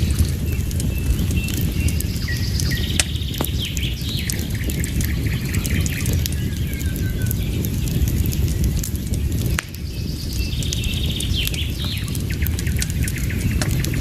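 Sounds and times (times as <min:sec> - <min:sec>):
birds chirping: 0:00.0 - 0:14.0
fire crackling: 0:00.0 - 0:14.0.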